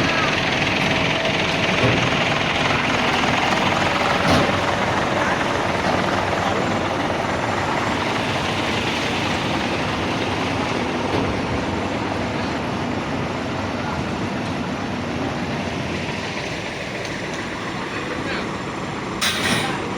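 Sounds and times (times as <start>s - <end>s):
diesel truck engine rumbling: 0.0s - 19.9s.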